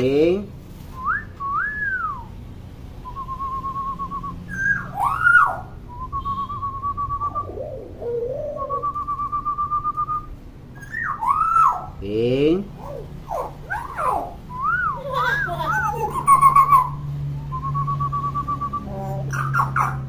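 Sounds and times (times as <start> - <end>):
myna bird whistling: 1.0 - 2.4, 3.0 - 12.0, 12.8 - 20.0.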